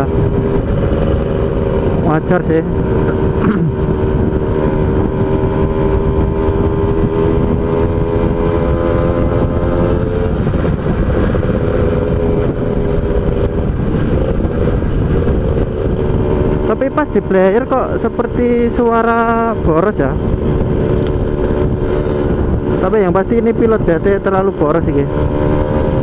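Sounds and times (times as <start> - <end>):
motorcycle engine at road speed: 0.0 - 26.0
wind rumble on microphone: 0.0 - 26.0.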